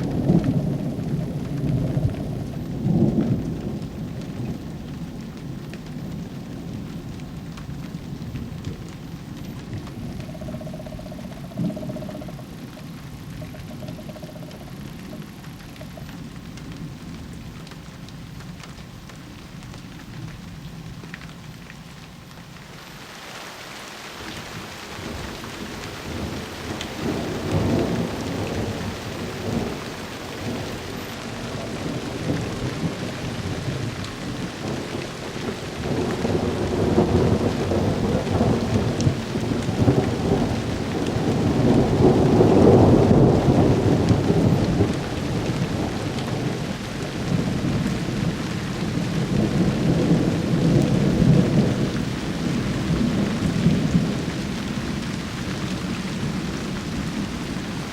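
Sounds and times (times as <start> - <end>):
rolling thunder: 0.0 - 17.6, 25.0 - 57.9
falling rain: 0.0 - 57.9.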